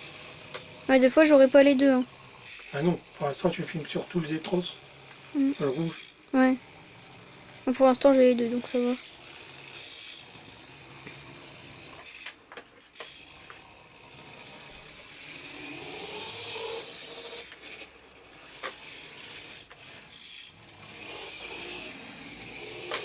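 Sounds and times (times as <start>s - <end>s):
small gear motors whirring: 0.0s - 23.0s.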